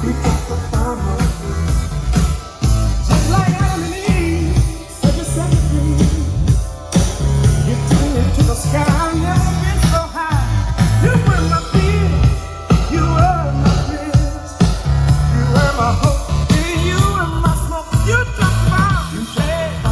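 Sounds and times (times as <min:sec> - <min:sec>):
funk song with singing: 0:00.0 - 0:19.9
heavy pulsing bass beat: 0:00.0 - 0:19.9.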